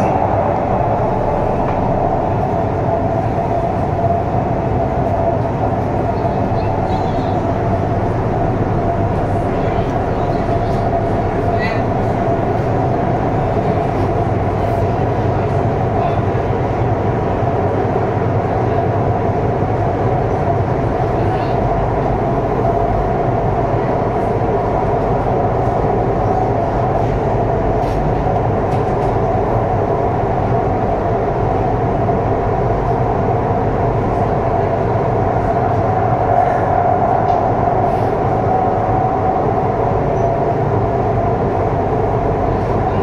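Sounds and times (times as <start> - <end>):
metro train running rumble: 0.0 - 43.0.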